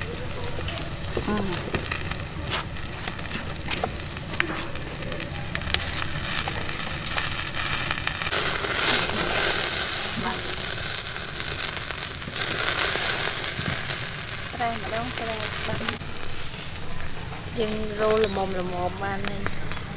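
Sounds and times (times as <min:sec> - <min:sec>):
fire crackling: 0:00.0 - 0:19.9
meat sizzling and popping: 0:00.0 - 0:19.9.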